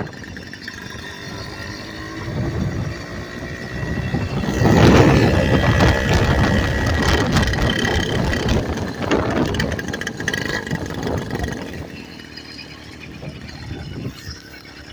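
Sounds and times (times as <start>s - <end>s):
motorbike engine running: 0.0s - 14.9s.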